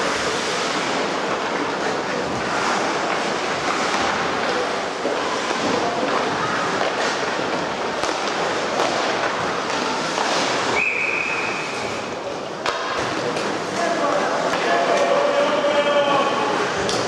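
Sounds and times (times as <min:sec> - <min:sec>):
skates rushing on ice: 0:00.0 - 0:17.0
spectators: 0:00.0 - 0:17.0
stick and puck clacks: 0:00.1 - 0:10.9, 0:12.5 - 0:17.0.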